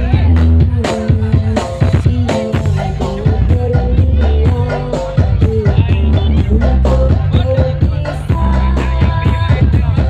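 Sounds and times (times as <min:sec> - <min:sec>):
heavy booming bass: 0:00.0 - 0:10.0
loud music with singing: 0:00.0 - 0:10.0.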